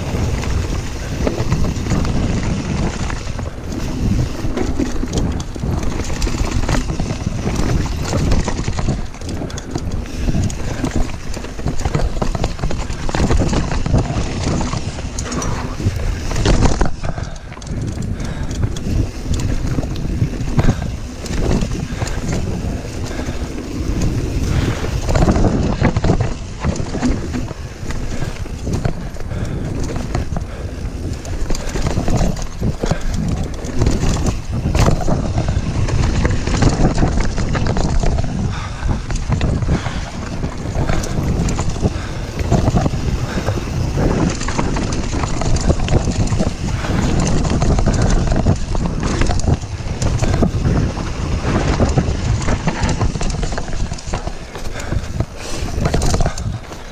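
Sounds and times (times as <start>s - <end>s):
bike rattling and knocking: 0.0s - 56.9s
bike tyre roar on dirt: 0.0s - 56.9s
wind buffeting microphone: 0.0s - 56.9s.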